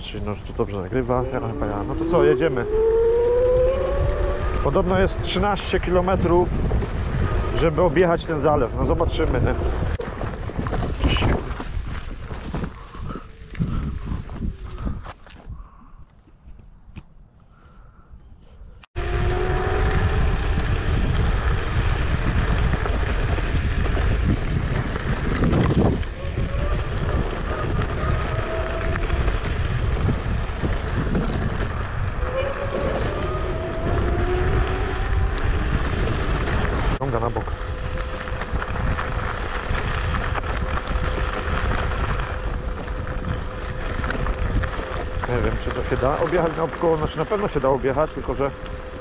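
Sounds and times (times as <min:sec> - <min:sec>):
wind buffeting microphone: 0:00.0 - 0:49.0
tyre and frame rumble: 0:00.9 - 0:15.7, 0:18.3 - 0:47.9.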